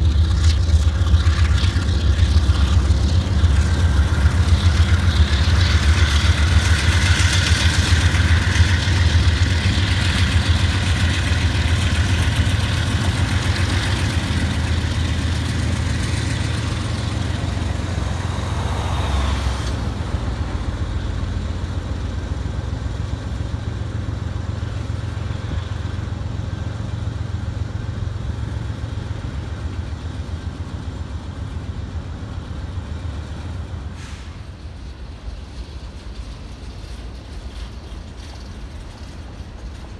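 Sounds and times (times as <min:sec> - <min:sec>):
diesel locomotive engine drone: 0:00.0 - 0:39.9
freight cars rumbling: 0:00.0 - 0:39.9.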